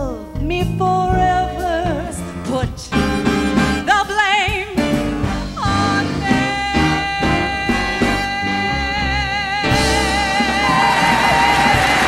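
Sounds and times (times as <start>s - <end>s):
big band swing music: 0.0s - 12.0s
woman singing with vibrato: 0.0s - 12.0s.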